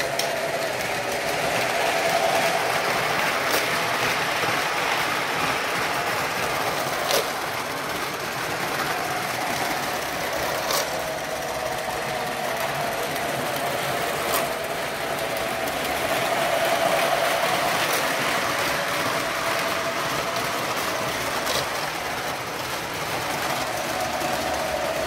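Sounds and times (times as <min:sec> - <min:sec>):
model train rumbling on track: 0:00.0 - 0:25.0.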